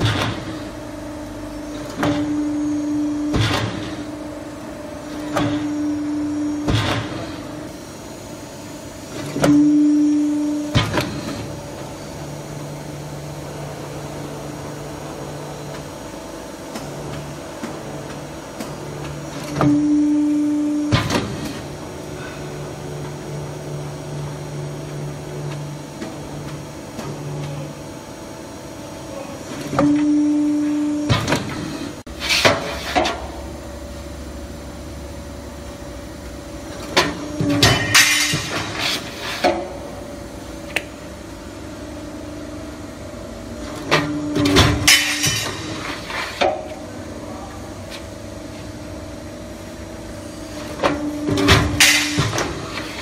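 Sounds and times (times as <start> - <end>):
hydraulic pump hum: 0.0 - 53.0.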